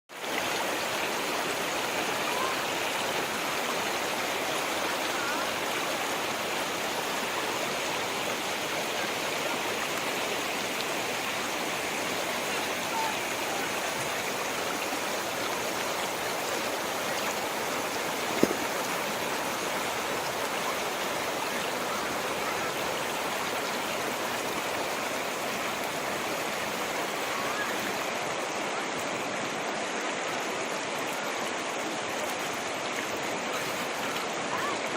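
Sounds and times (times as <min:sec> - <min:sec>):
stream water babbling: 0:00.1 - 0:34.9.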